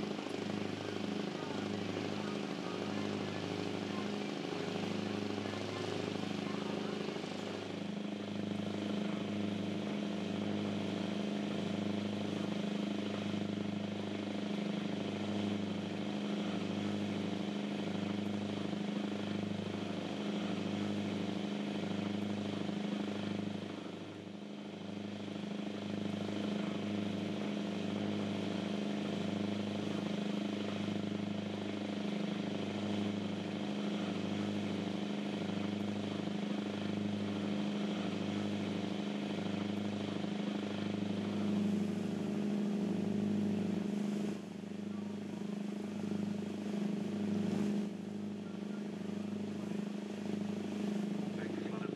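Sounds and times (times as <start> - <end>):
boat engines droning: 0.0 - 51.9.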